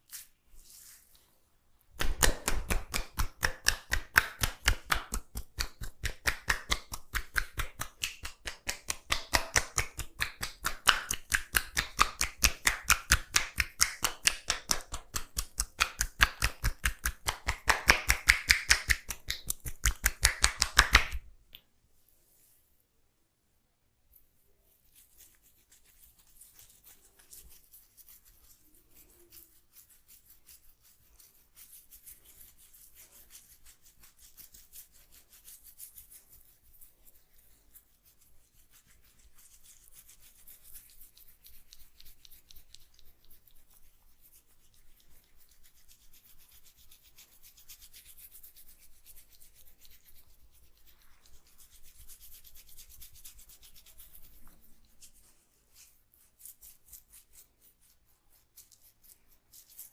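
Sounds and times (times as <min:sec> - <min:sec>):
hands rubbing hair and skin: 0:00.0 - 0:22.8, 0:24.1 - 0:59.9.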